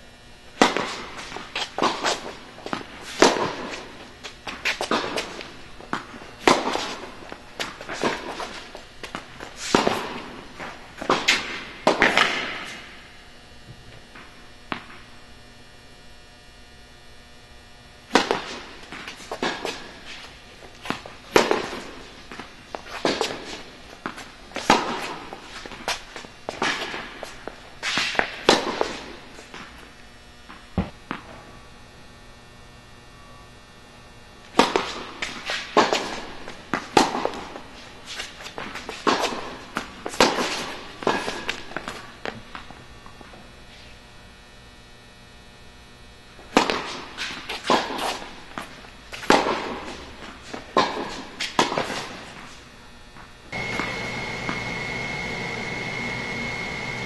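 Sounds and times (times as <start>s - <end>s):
tennis balls hit and bouncing: 0.6s - 13.1s, 13.7s - 15.1s, 18.1s - 31.4s, 34.5s - 43.4s, 46.4s - 57.0s.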